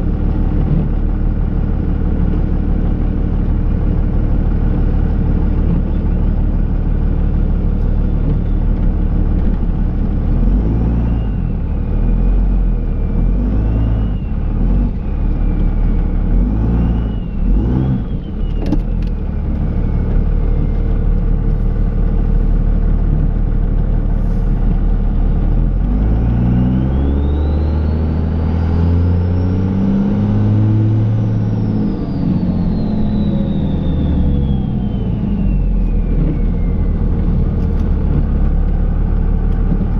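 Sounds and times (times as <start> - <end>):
diesel engine revving: 0.0 - 39.9
turbo whine: 0.0 - 39.9.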